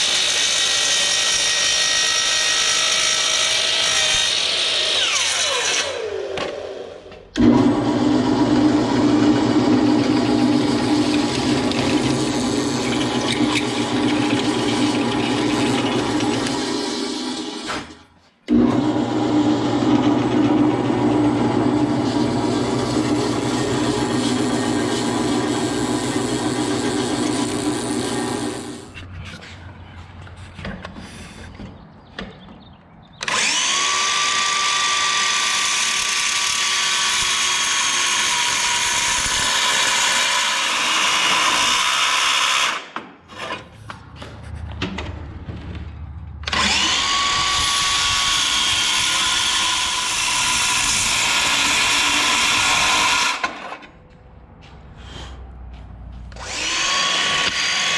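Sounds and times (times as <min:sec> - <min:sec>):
miter saw cutting metal: 0:00.0 - 0:29.0, 0:33.2 - 0:43.6, 0:46.4 - 0:53.9, 0:56.3 - 0:57.9.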